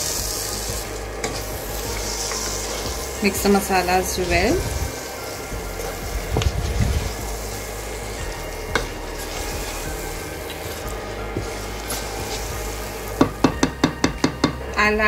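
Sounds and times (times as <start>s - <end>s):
wooden spatula scraping pot: 0.0s - 14.6s
food sizzling in a pot: 0.0s - 15.0s.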